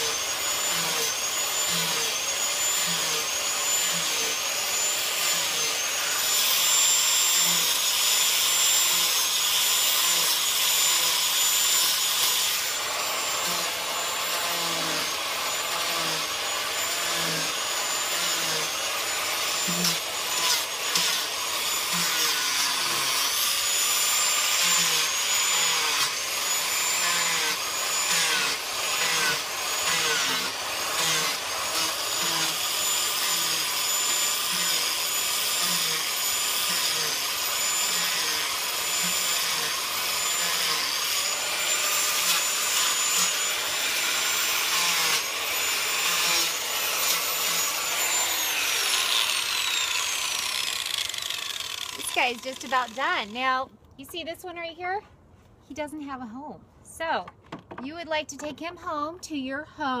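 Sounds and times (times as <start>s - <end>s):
rotary tool grinding wood: 0.0s - 54.2s.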